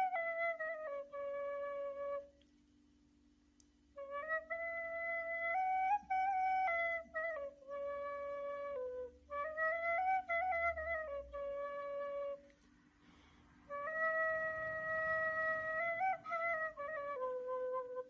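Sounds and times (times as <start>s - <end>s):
reed flute slow melody: 0.0s - 2.6s, 3.9s - 18.0s.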